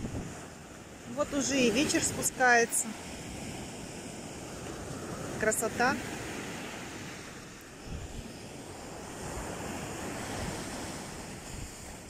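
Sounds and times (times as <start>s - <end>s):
waves washing on beach: 0.0s - 12.0s
wind rumbling on microphone: 0.0s - 12.0s.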